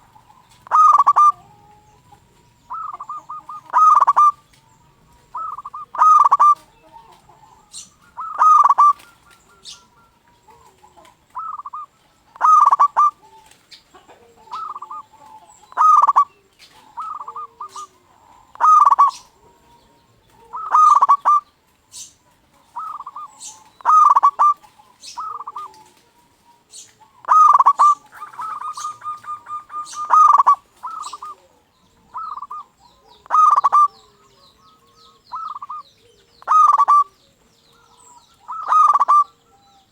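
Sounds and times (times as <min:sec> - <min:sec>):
dove cooing: 0:00.0 - 0:39.9
faint high chirps: 0:00.0 - 0:39.9.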